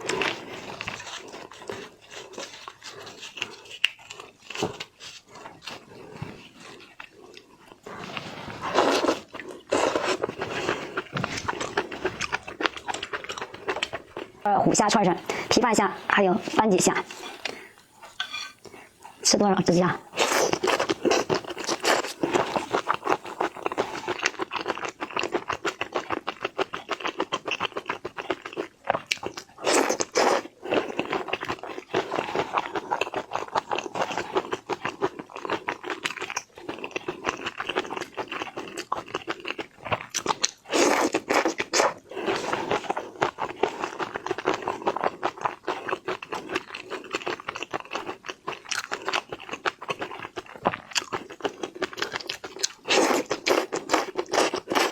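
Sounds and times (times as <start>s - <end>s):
crunching and chewing shrimp: 0.0s - 19.4s, 20.0s - 54.9s.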